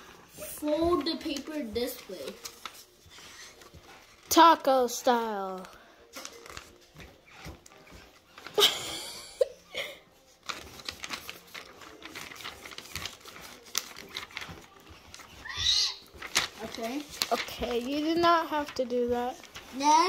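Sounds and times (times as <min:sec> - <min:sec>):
paper folding and creasing: 0:00.0 - 0:08.6, 0:10.2 - 0:20.0.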